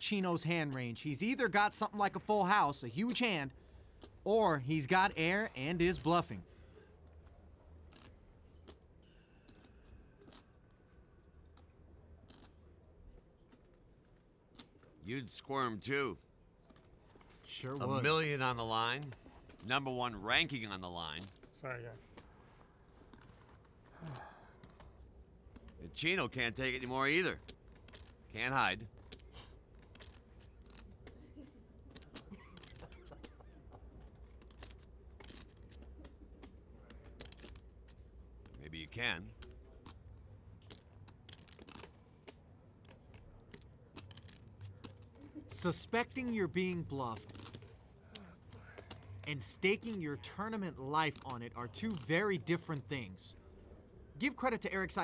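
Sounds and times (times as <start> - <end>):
low room hum: 0.0 - 55.0
poker chips clicking: 0.1 - 6.4, 7.0 - 8.8, 9.4 - 16.0, 16.7 - 22.3, 23.1 - 53.0.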